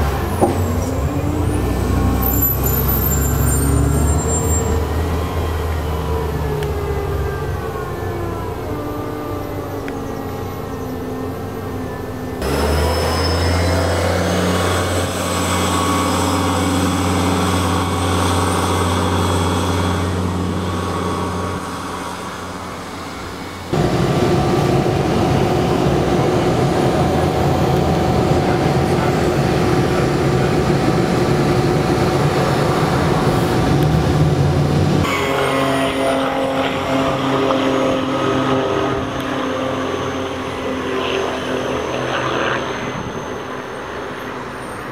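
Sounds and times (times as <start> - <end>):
bus engine humming: 0.0 - 44.9
bus passing close by: 0.0 - 44.9
road and traffic noise: 0.0 - 44.9.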